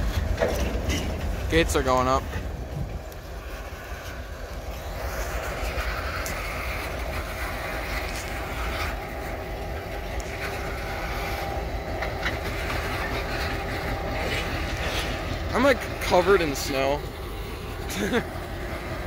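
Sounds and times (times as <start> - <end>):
diesel locomotives rumbling: 0.0 - 19.0.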